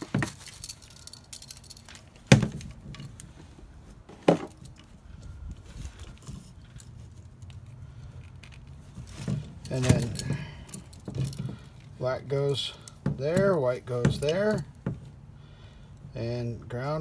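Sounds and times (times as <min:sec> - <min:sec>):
wires handled clicking and rustling: 0:00.0 - 0:03.5, 0:04.4 - 0:14.9.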